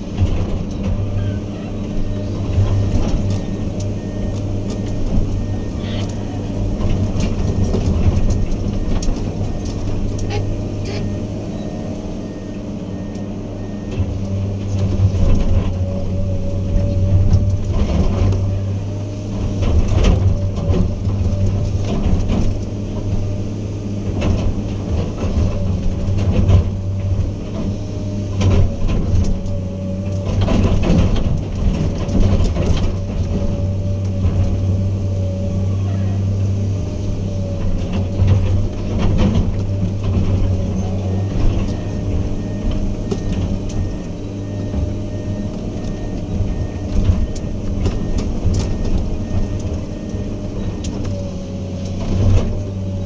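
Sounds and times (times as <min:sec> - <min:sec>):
diesel machine engine hum: 0:00.0 - 0:53.0.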